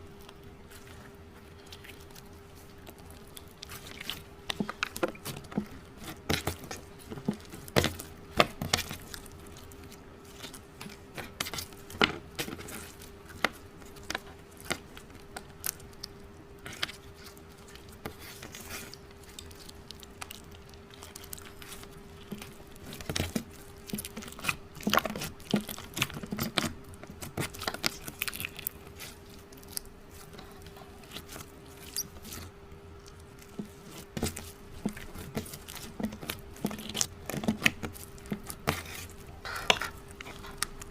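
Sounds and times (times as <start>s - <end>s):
faint steady hum: 0.0s - 40.9s
slime squished by hand: 0.1s - 40.9s.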